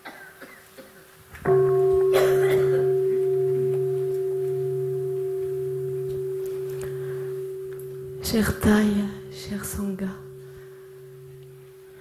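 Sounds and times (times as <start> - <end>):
bowl bell ringing: 1.5 - 12.0.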